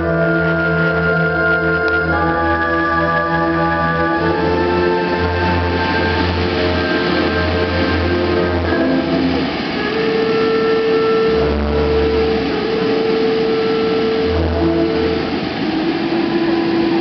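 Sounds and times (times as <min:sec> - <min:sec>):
dense steady hiss: 0:00.0 - 0:17.0
music with held notes: 0:00.0 - 0:17.0.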